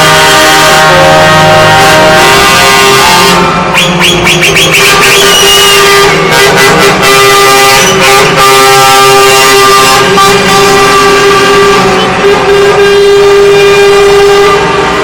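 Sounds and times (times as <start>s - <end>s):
fast pulsing high-pitched horn: 0.0s - 15.0s
truck air horn blasting: 0.0s - 15.0s.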